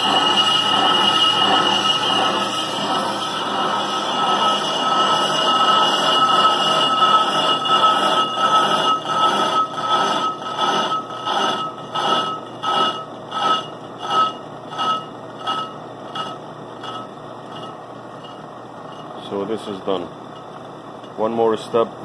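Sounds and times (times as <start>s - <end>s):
brake lathe scraping metal rotor: 0.0s - 21.3s.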